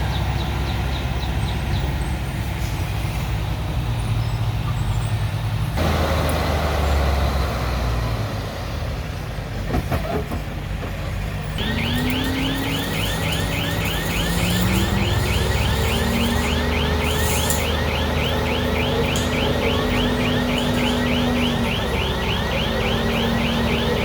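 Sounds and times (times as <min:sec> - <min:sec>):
heavy diesel engines running: 0:00.0 - 0:24.0.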